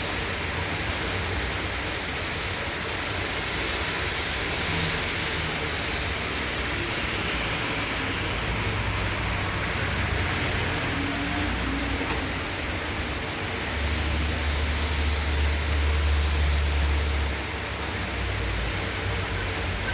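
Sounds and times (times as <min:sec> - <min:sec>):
heavy rain hiss: 0:00.0 - 0:19.9.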